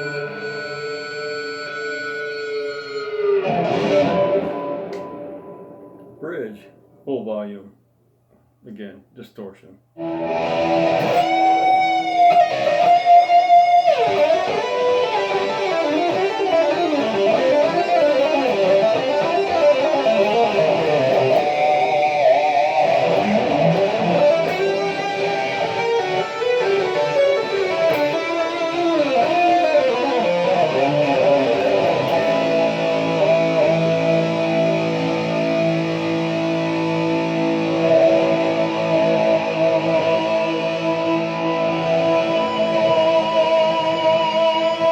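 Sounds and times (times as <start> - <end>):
distorted electric guitar lead: 0.0 - 7.0, 10.0 - 44.9.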